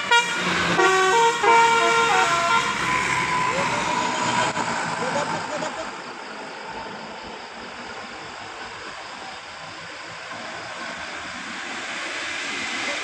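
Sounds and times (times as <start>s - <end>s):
rushing vehicle traffic: 0.0s - 13.0s.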